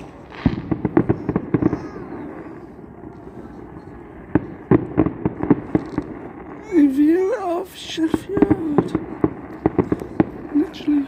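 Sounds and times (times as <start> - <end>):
fireworks cracks and bangs: 0.0 - 11.0.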